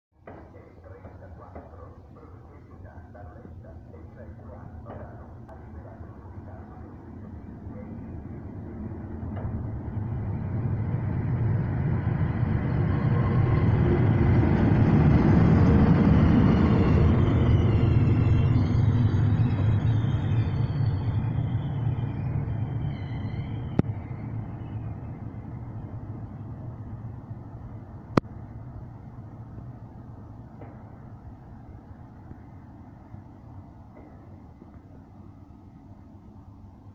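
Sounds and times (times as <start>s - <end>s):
high whine: 0.2s - 36.9s
train wheels rumbling on rails: 4.1s - 35.5s.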